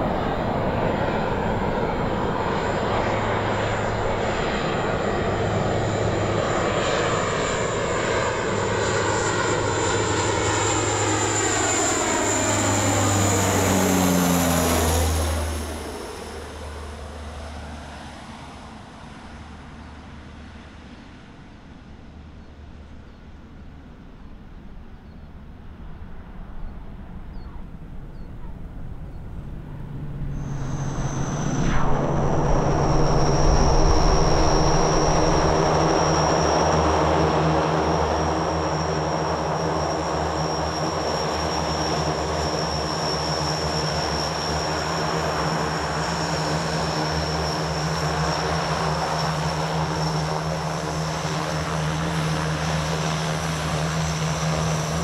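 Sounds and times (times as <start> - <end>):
turboprop aircraft taxiing: 0.0 - 55.0.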